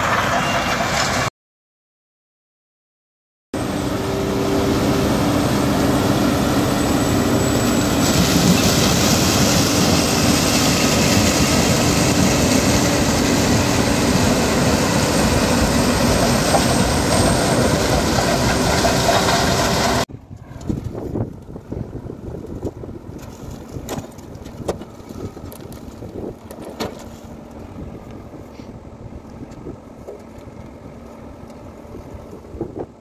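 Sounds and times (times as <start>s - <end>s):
combine harvester machinery drone: 3.6s - 23.3s, 24.1s - 33.0s.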